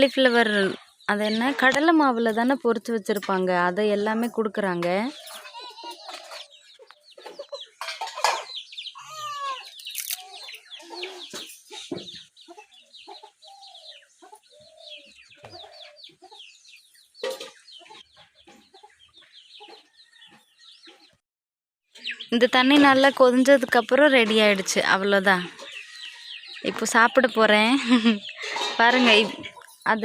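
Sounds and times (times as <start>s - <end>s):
birds chirping and calling: 0.0s - 21.2s, 21.9s - 30.0s.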